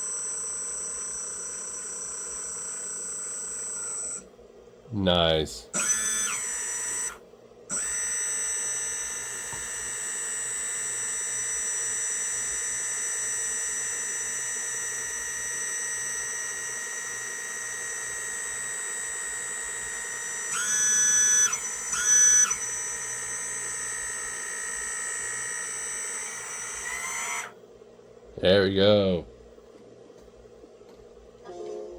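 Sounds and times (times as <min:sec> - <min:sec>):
hydraulic pump whining: 0:00.0 - 0:04.3, 0:05.7 - 0:27.6.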